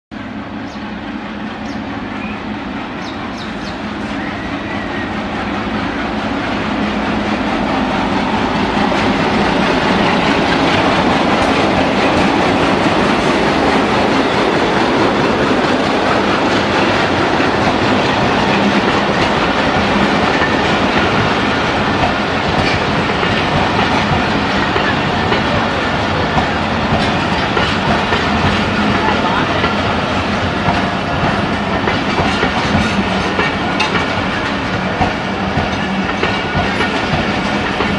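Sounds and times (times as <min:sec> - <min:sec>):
diesel locomotive passing: 0:00.1 - 0:37.9
train wheels clacking over rail joints: 0:05.4 - 0:37.9.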